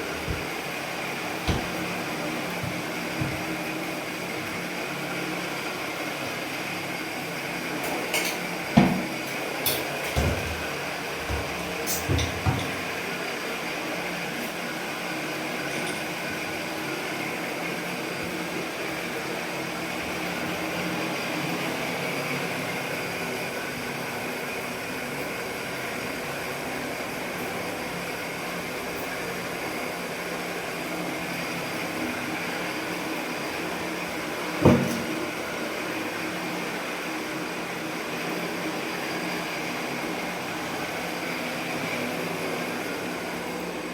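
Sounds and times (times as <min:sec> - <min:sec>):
machine hum and hiss: 0:00.0 - 0:43.9.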